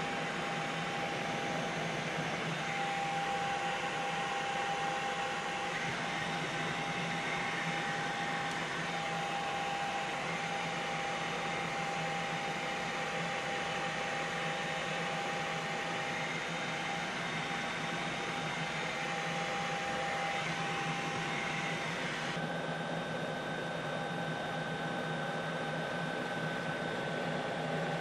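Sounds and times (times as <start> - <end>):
helicopter engine and rotors: 0.0 - 28.0.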